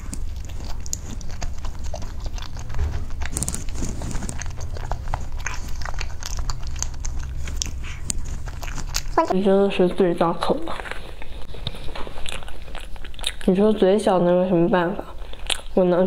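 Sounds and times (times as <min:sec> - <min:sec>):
mouth clicks and smacks chewing: 0:00.0 - 0:09.4, 0:10.4 - 0:14.0, 0:15.2 - 0:15.9.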